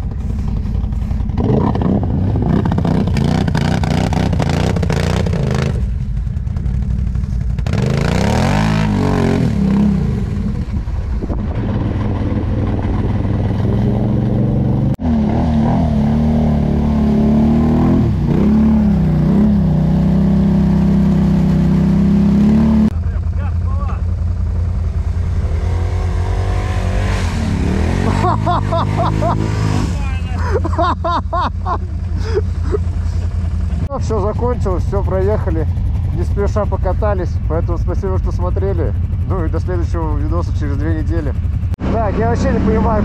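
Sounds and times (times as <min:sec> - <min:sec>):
quad bike engine revving: 0:00.0 - 0:43.0.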